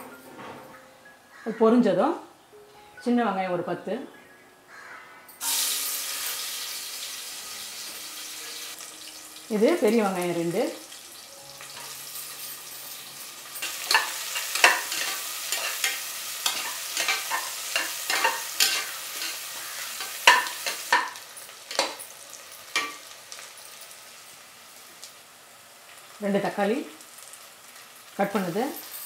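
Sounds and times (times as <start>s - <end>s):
onions sizzling in hot oil: 5.4s - 29.0s.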